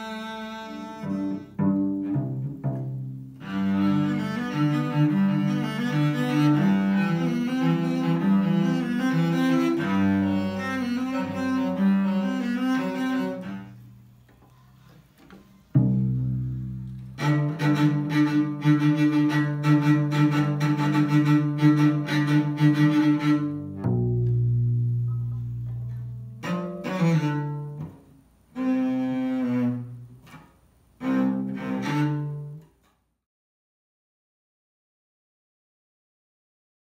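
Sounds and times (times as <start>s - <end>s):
bowed cello notes: 0.0s - 32.8s.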